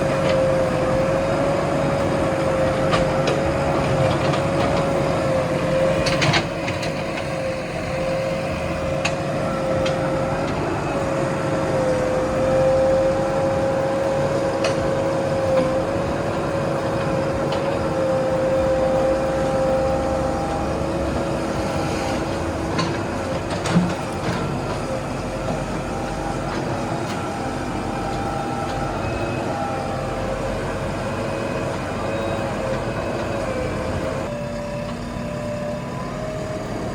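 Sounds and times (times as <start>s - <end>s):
diesel engine running: 0.0s - 36.9s
wavering whine: 0.0s - 36.9s.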